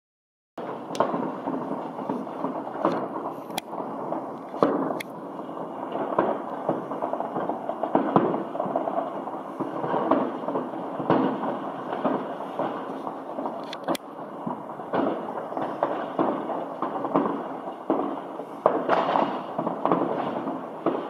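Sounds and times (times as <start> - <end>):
fireworks rumble and crackle: 0.6 - 21.0
loud firework bangs: 0.6 - 21.0.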